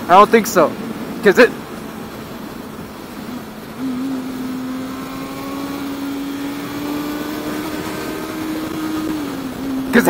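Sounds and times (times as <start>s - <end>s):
motorcycle engine at speed: 0.7s - 10.0s.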